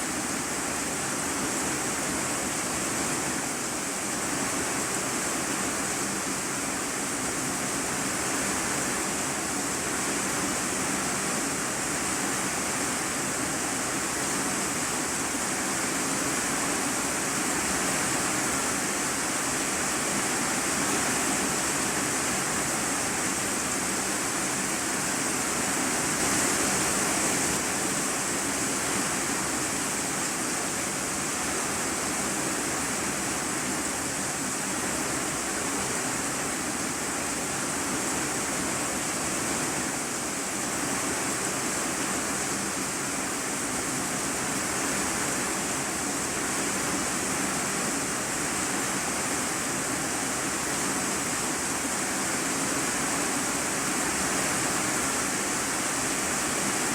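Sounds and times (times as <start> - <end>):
heavy rain on a metal roof: 0.0 - 56.9.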